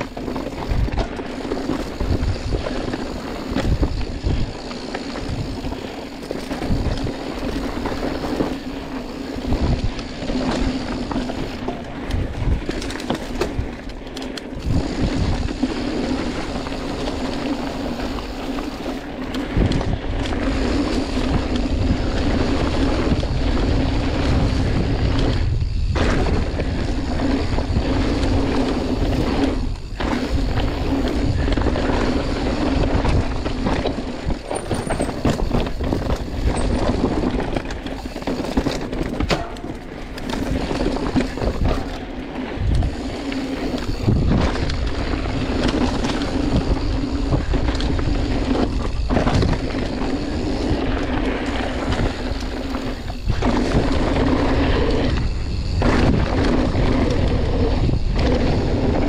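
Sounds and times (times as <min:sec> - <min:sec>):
wind buffeting microphone: 0:00.0 - 0:13.9, 0:14.5 - 0:59.0.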